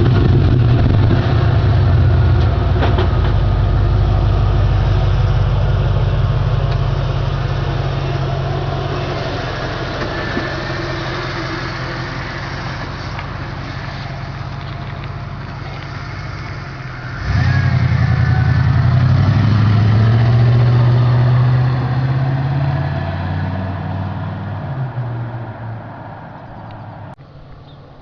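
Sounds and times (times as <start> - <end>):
car engine revving: 0.0 - 27.2.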